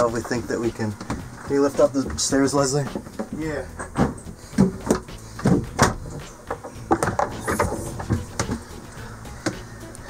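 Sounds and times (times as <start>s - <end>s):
wooden steps knocking and bumping: 0.0s - 8.7s.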